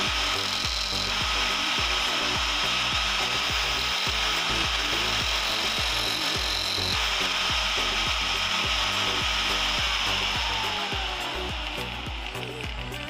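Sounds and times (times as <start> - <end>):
angle grinder motor whine: 0.0 - 13.0
grinding hiss on metal: 0.0 - 13.0.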